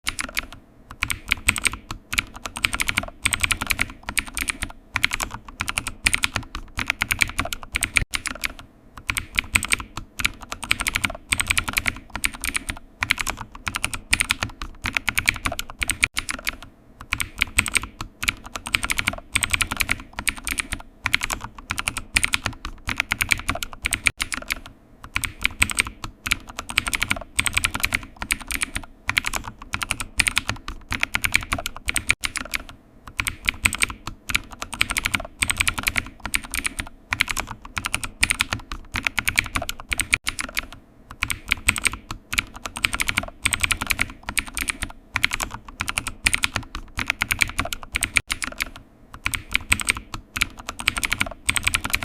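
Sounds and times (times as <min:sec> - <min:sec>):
keyboard typing: 0:00.0 - 0:52.0.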